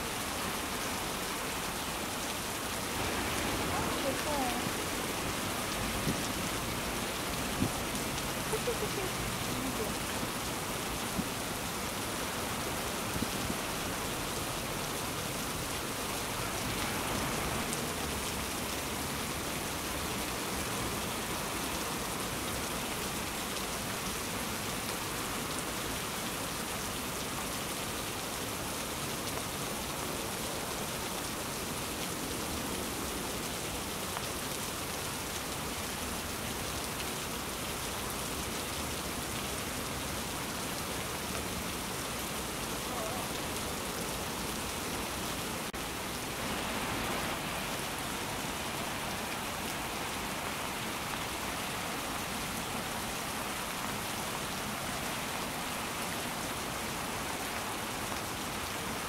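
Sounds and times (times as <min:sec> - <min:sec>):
rain pattering on leaves: 0:00.0 - 0:59.0.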